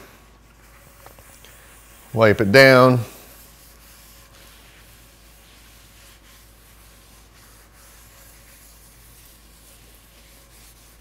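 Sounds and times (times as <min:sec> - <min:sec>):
paper towel wiping cast iron: 0:00.0 - 0:11.0.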